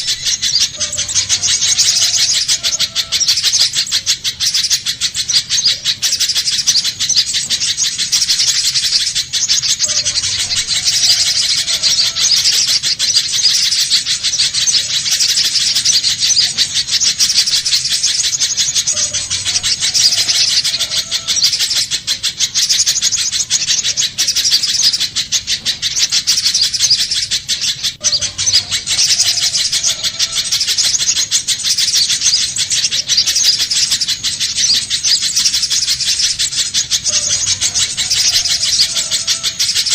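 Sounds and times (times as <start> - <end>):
bird high sharp chirps: 0.0 - 39.9.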